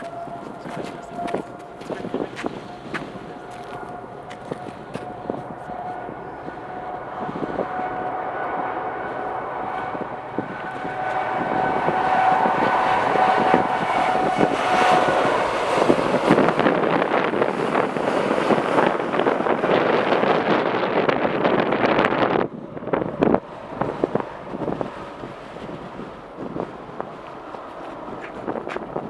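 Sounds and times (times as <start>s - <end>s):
jet engine whine: 0.0s - 29.0s
rushing jet noise: 0.0s - 29.0s.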